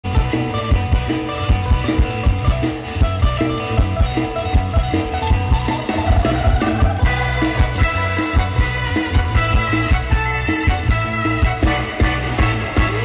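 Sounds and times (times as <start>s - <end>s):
band music through loudspeakers: 0.0s - 13.0s.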